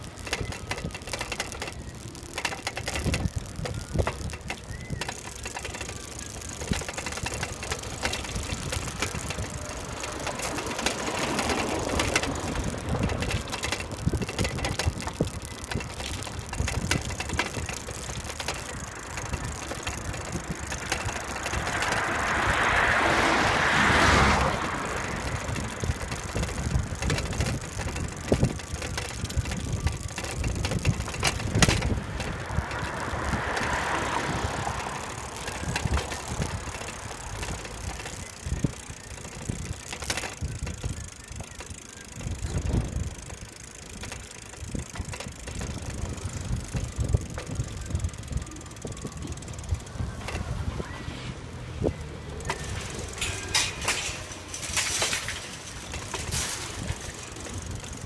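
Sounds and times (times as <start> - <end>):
bicycle frame rattling: 0.0 - 58.0
road noise rushing: 0.0 - 58.0.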